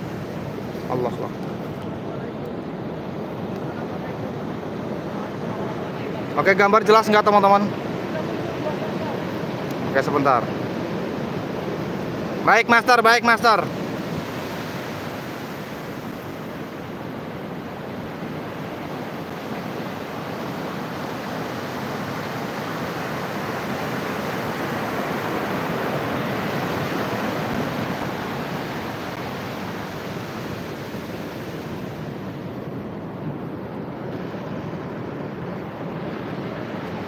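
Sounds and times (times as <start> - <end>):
sea surf washing onto beach: 0.0 - 37.0.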